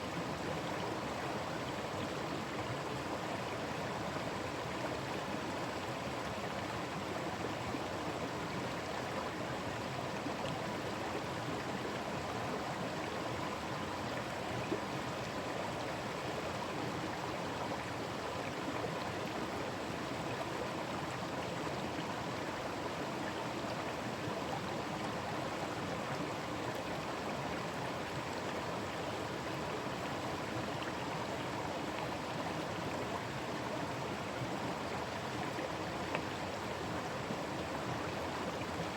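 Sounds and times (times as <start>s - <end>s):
stream rushing and burbling: 0.0s - 38.9s.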